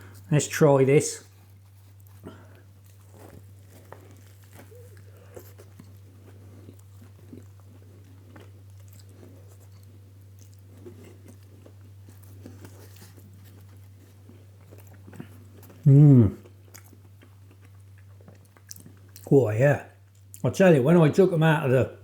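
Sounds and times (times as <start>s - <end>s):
crunchy food chewing: 1.2s - 19.4s.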